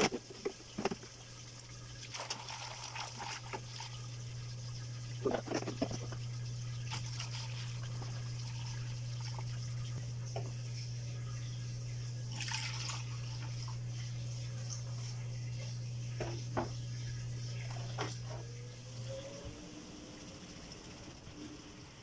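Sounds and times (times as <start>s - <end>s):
liquid trickling into a jug: 0.0s - 19.2s
steady low hum: 0.0s - 22.0s.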